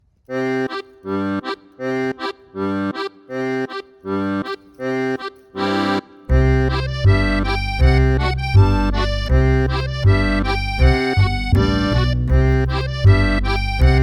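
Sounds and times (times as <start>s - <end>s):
accordion-like chords in bouncy rhythm: 0.2s - 14.0s.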